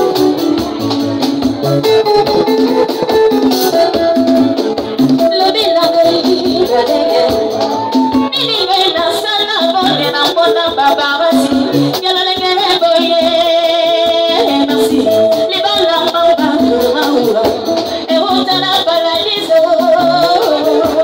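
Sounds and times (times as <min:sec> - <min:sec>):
music with steady percussion: 0:00.0 - 0:21.0
woman singing into microphone: 0:01.8 - 0:21.0.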